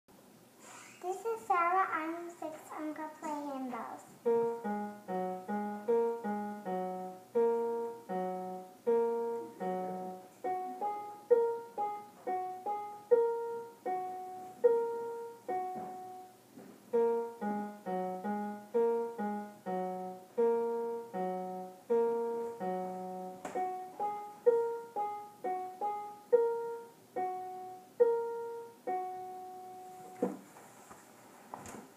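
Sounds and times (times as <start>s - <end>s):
electronic keyboard piano tune: 4.2s - 30.2s.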